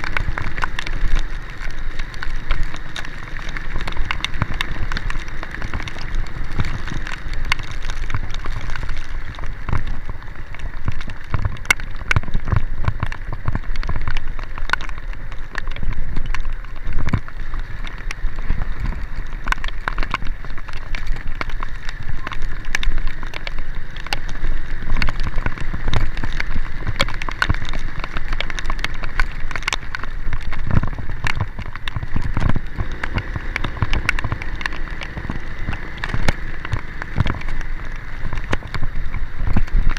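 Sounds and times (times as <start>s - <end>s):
heavy rain with drop hits: 0.0s - 39.9s
vehicle driving rumble: 0.0s - 39.9s.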